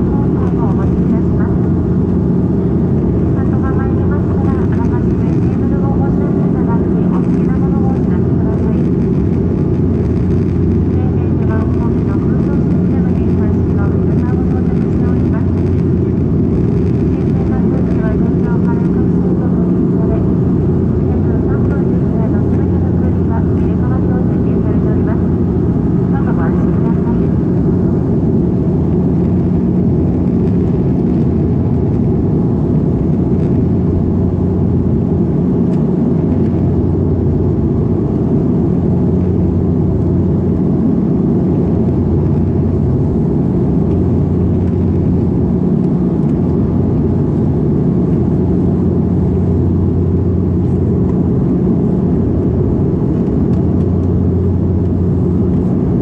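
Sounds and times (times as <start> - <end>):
turboprop cabin drone: 0.0 - 56.0.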